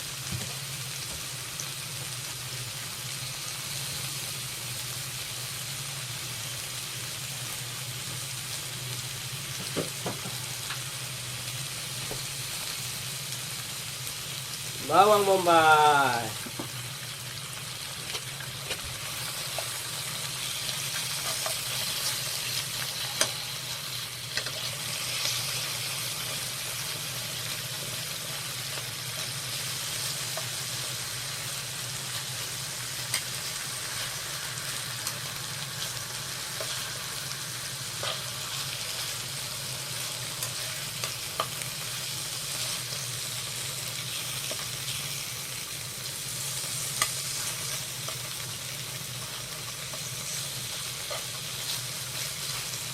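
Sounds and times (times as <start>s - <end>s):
food sizzling in a pan: 0.0s - 52.9s.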